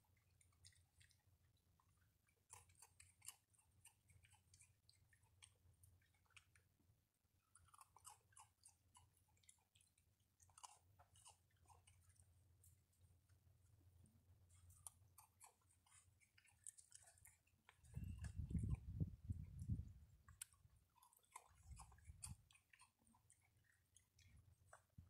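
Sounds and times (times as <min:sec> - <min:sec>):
animal chewing and crunching food: 0:00.0 - 0:25.0.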